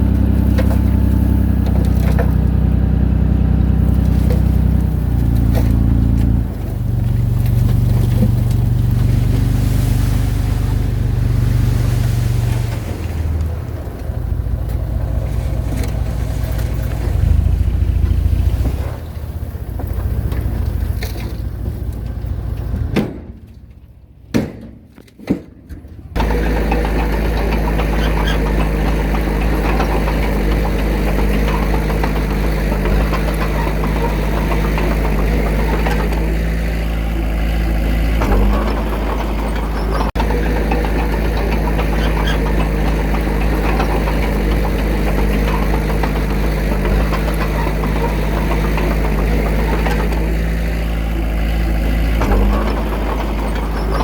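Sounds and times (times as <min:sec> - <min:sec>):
diesel engine running: 0:00.0 - 0:24.3, 0:25.9 - 0:54.0.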